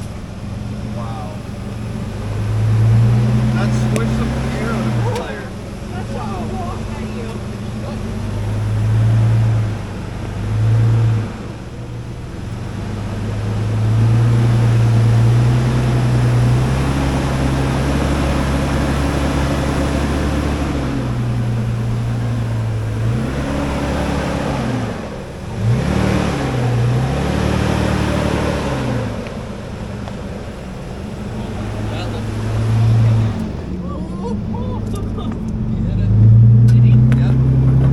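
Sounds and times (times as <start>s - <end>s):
truck engine revving: 0.0s - 37.9s.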